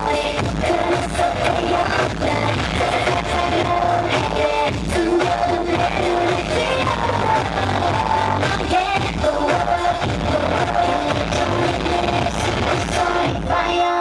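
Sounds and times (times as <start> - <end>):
heavy electronic beat: 0.0 - 14.0
live dance-pop song: 0.0 - 14.0
woman singing: 0.0 - 14.0.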